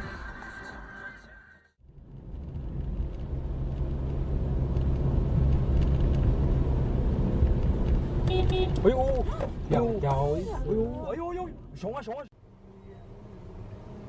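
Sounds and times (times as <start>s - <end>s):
car driving rumble: 1.8s - 14.0s.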